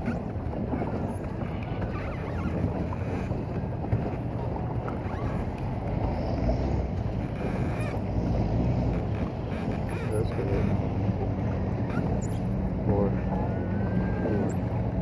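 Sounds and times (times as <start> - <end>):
water sloshing from pedal boat: 0.0 - 15.0
wind on microphone: 0.0 - 15.0.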